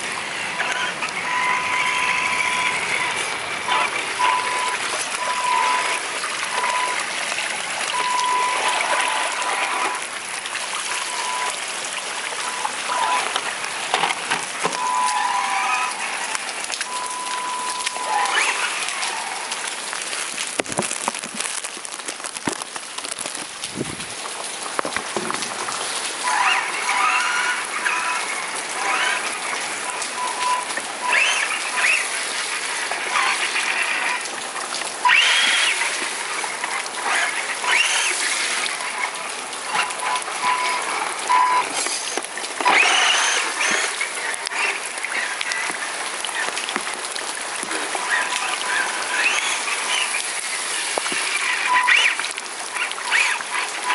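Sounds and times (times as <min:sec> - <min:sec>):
rain on tiled ground and puddles: 0:00.0 - 0:53.9.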